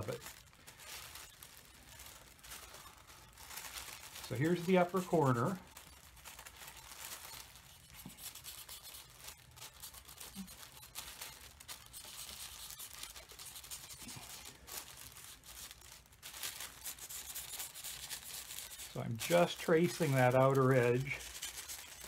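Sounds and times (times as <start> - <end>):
tissue paper crinkling: 0.0 - 22.0.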